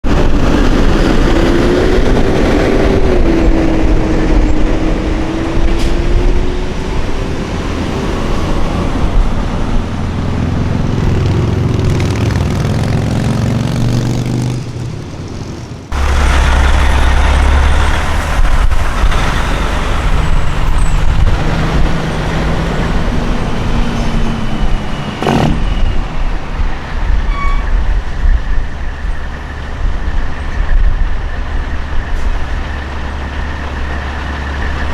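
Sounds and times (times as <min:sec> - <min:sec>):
trucks driving past: 0:00.0 - 0:34.9
tyres on the road: 0:00.0 - 0:34.9.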